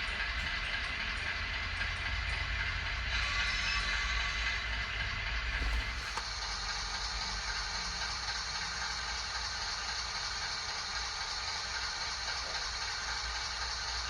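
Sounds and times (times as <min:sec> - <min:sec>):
diesel locomotive through small speaker: 0:00.0 - 0:14.0.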